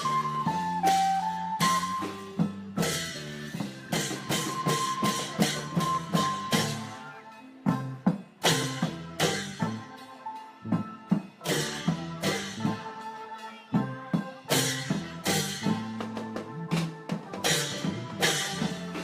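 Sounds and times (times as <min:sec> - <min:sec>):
long drums playing rhythm: 0:00.0 - 0:19.0.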